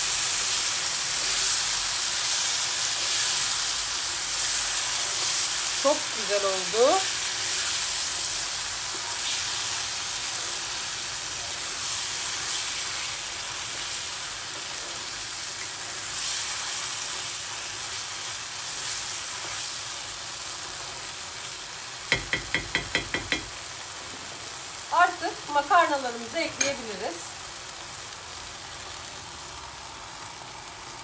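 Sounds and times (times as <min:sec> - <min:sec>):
sauce sizzling in a frying pan: 0:00.0 - 0:31.0.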